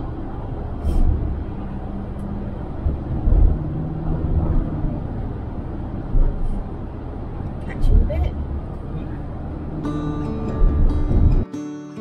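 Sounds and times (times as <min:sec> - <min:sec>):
car engine hum: 0:00.0 - 0:11.5
low bumps: 0:00.0 - 0:11.5
tyre and road rumble: 0:00.0 - 0:11.5.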